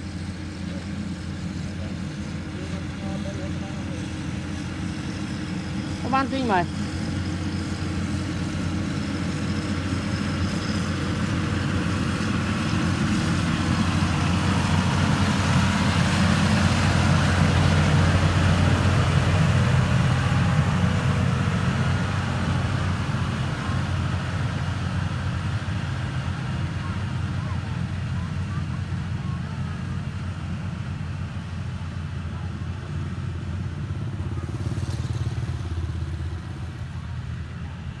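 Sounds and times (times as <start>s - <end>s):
heavy diesel engine droning: 0.0s - 38.0s.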